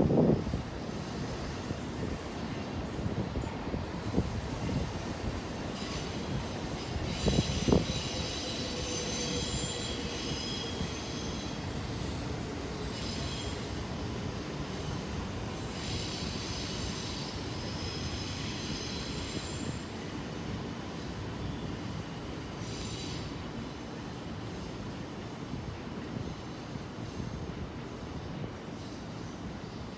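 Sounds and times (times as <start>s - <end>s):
train rolling on rails: 0.0s - 29.9s
train wheels squealing: 0.9s - 25.2s, 26.0s - 29.9s.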